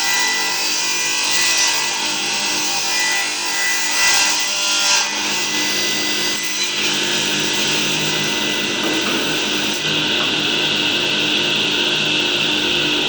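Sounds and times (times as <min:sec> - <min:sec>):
circular saw cutting wood: 0:00.0 - 0:13.0.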